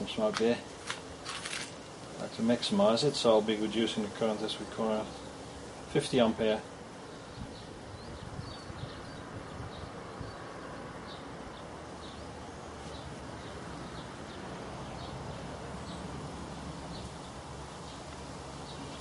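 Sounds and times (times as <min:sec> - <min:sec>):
electrical buzz and hiss: 0:00.0 - 0:19.0.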